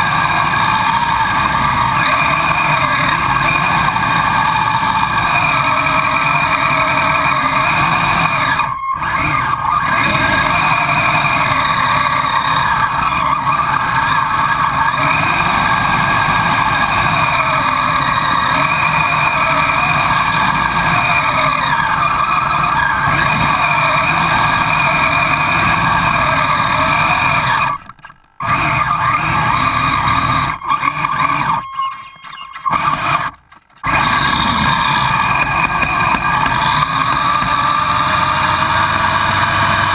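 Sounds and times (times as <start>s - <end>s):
toy electric motor and tracks: 0.0s - 39.9s.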